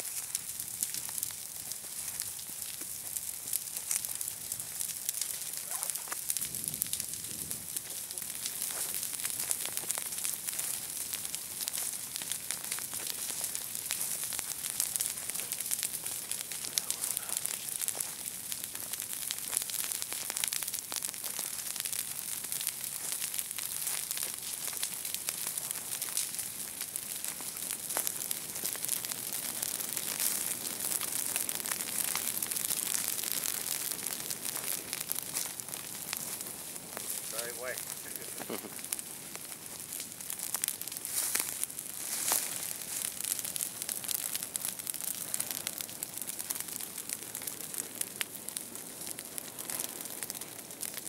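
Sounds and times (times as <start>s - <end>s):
fire crackling through dry grass: 0.0s - 51.0s.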